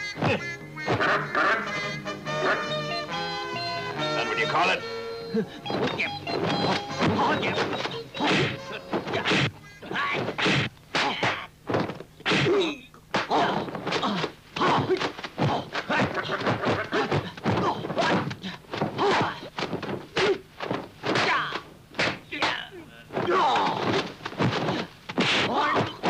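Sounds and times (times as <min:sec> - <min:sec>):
punches and kicks thwacking: 0:00.2 - 0:01.2, 0:05.7 - 0:26.0.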